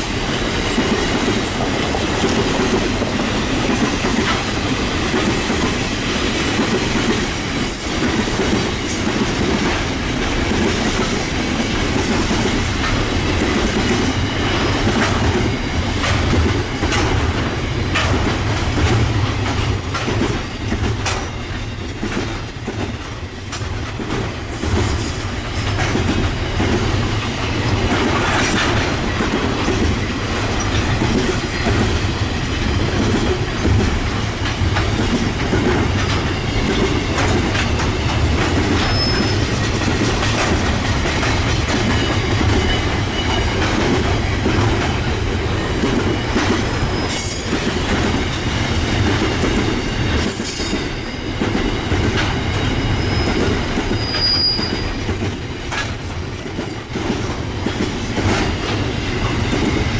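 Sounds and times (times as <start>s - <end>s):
wheels clicking over rail joints: 0.3s - 32.2s, 32.8s - 59.9s.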